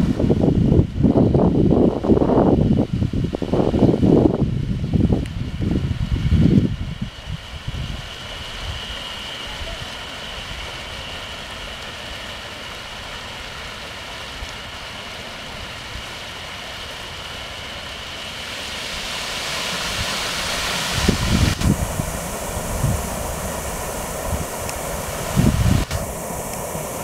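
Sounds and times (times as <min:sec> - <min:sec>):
fountain water splashing into pond: 0:00.0 - 0:27.0.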